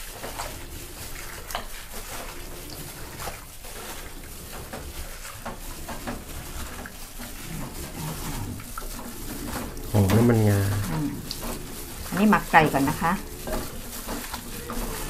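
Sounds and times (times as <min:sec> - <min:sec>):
wet squishing of chicken mixed by hand: 0:00.0 - 0:15.0.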